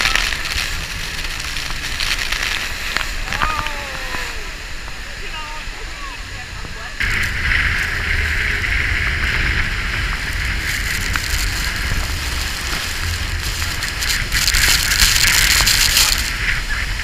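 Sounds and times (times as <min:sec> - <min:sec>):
boat engine: 0:00.0 - 0:17.0
waterfall roaring: 0:00.0 - 0:17.0
wind rumbling on microphone: 0:00.0 - 0:17.0.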